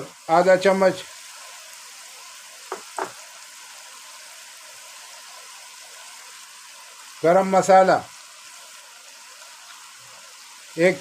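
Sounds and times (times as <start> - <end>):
spices sizzling in ghee: 0.0 - 11.0.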